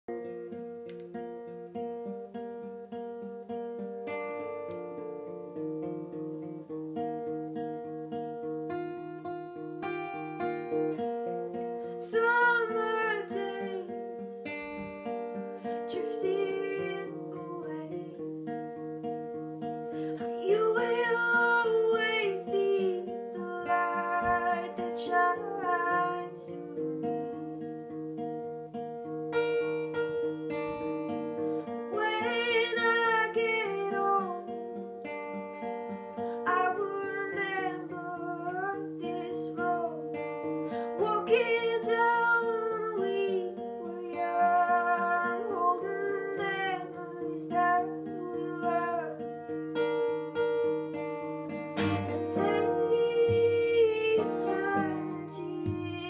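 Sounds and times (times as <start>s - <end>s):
acoustic guitar playing: 0.0s - 56.0s
woman singing: 8.4s - 28.0s, 30.2s - 56.0s.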